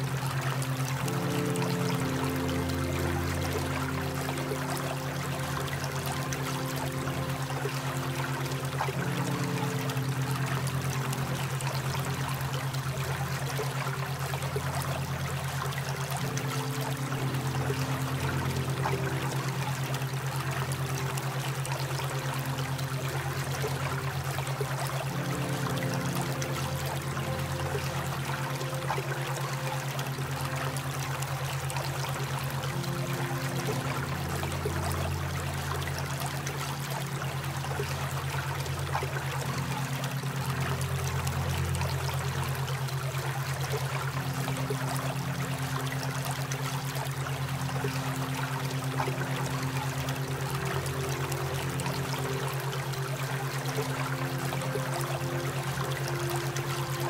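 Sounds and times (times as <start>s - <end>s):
low hum tone: 0.0s - 57.0s
running water: 0.0s - 57.0s
soft sustained notes: 0.0s - 57.0s.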